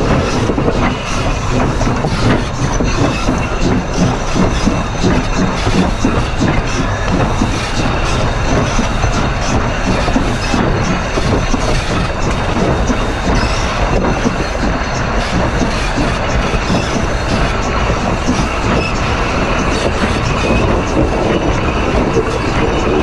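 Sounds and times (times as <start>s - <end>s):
train wheels rolling on rail: 0.0s - 23.0s
wheel squealing: 0.0s - 23.0s.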